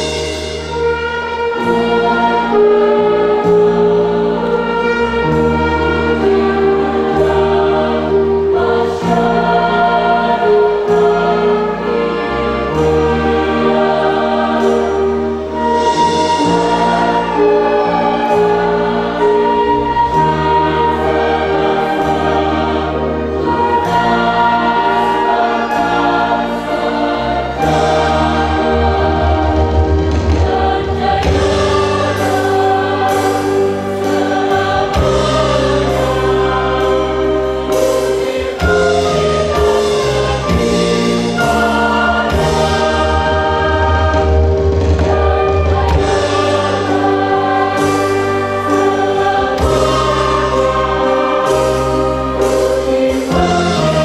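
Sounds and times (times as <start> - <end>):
drums: 0.0 - 4.4, 12.7 - 54.0
brass: 0.0 - 54.0
keyboard: 0.0 - 54.0
mixed choir singing a hymn: 0.0 - 54.0
violins: 0.0 - 54.0.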